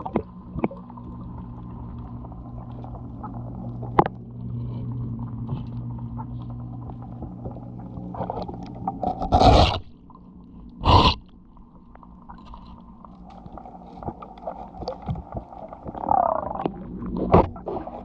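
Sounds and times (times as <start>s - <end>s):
low steady hum: 0.0s - 18.0s
scraping boat hull underwater: 0.0s - 18.0s.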